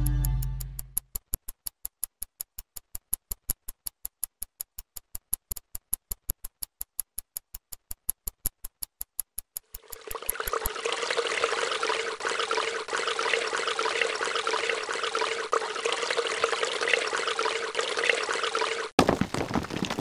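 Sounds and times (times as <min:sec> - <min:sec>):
rapid sharp clicks: 0:00.8 - 0:19.0.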